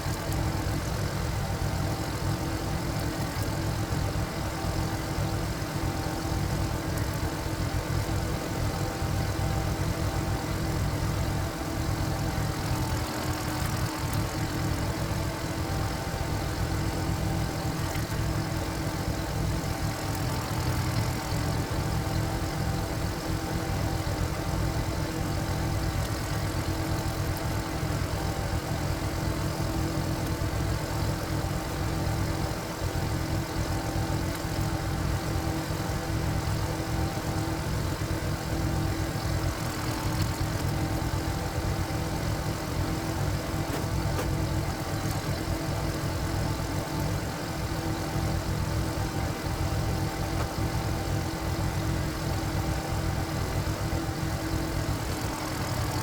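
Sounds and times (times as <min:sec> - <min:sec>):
diesel tiller engine running: 0:00.0 - 0:56.0.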